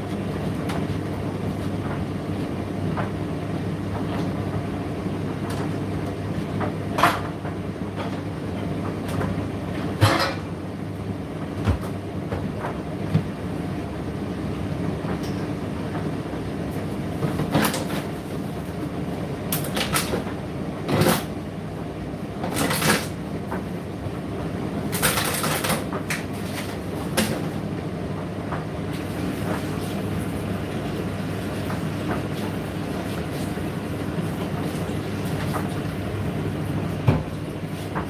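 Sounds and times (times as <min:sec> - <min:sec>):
tumble dryer motor and drum hum: 0:00.0 - 0:38.0.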